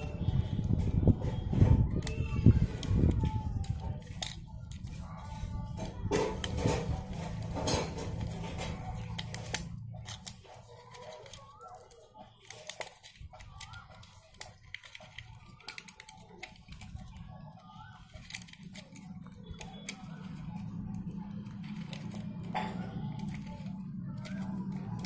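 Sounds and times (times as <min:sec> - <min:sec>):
plastic parts clicking and tapping: 0:00.0 - 0:25.0.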